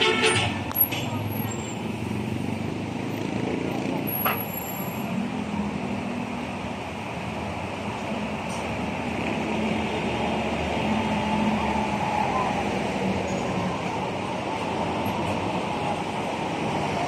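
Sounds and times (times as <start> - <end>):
cars passing: 0.0 - 17.0
road noise: 0.0 - 17.0
vehicle engines running: 0.0 - 17.0.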